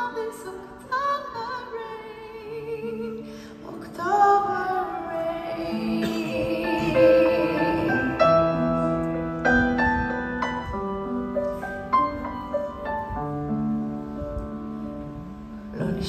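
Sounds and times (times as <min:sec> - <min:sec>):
grand piano chords: 0:00.0 - 0:16.0.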